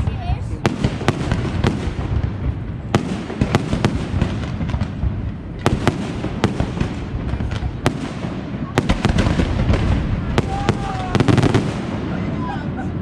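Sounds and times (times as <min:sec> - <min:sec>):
low rumble of bursting fireworks: 0:00.0 - 0:13.0.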